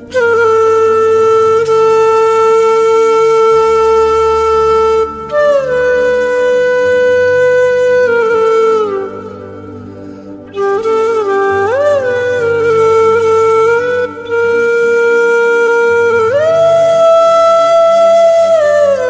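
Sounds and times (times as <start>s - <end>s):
wind instrument long notes: 0.0s - 19.0s.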